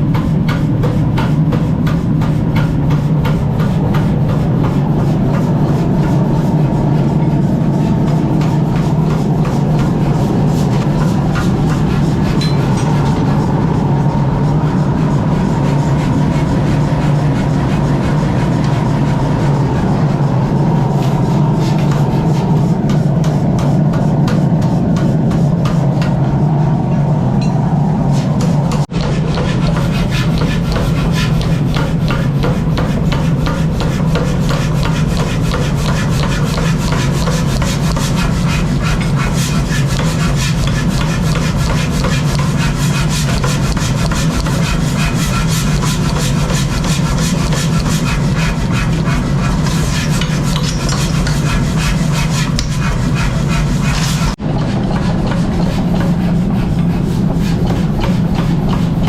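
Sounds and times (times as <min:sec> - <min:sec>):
tool rasping and scraping material: 0:00.0 - 0:26.2, 0:28.2 - 0:59.0
workshop machine humming: 0:00.0 - 0:59.0.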